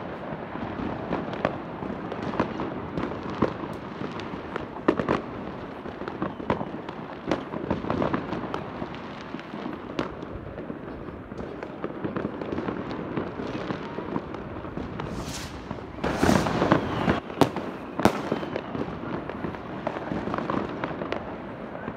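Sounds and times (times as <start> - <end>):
fireworks crackling and banging: 0.0 - 21.9.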